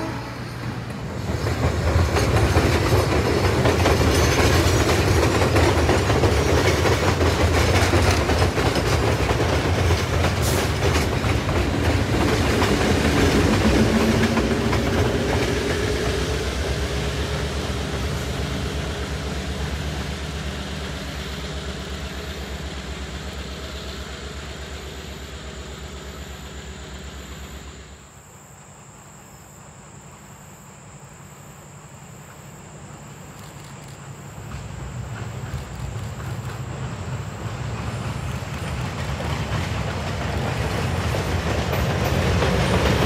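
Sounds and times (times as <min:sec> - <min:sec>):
diesel locomotive rumbling past: 0:00.0 - 0:29.0, 0:34.0 - 0:43.0.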